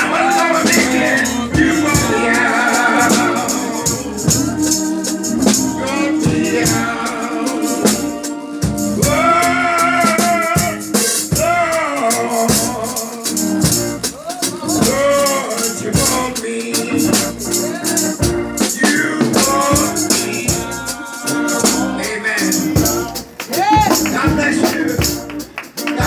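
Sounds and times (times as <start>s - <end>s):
drum kit with cymbals: 0.0s - 26.0s
organ: 0.0s - 26.0s
shaken percussion: 0.0s - 26.0s.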